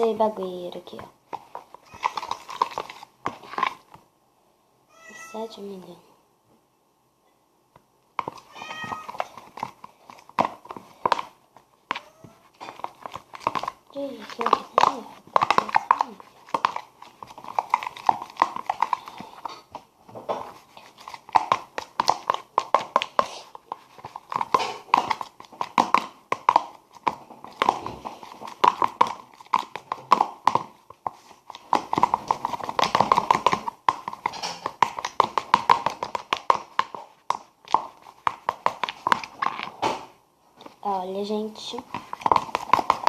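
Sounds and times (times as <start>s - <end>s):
slime squelching by hand: 0.0s - 4.0s, 8.2s - 43.0s.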